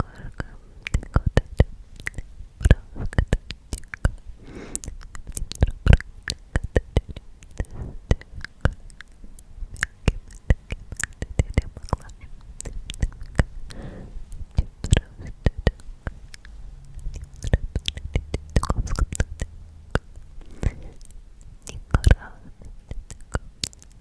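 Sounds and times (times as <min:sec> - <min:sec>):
soft breathy whispers: 0:00.0 - 0:24.0
wet mouth clicks and pops: 0:00.3 - 0:24.0.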